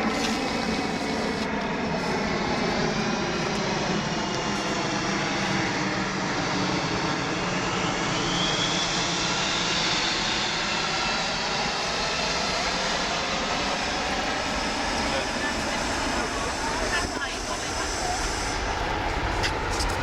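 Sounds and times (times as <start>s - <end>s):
high engine whine: 0.0s - 20.0s
jet aircraft flying past: 0.0s - 20.0s.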